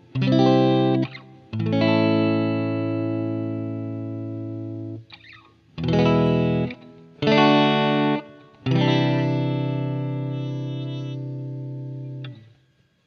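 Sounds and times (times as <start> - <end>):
guitar chords with effects: 0.0 - 13.0.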